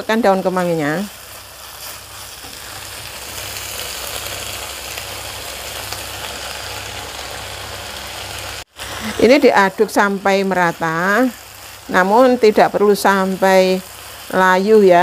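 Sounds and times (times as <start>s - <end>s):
chicken sizzling in a wok: 0.0s - 15.0s.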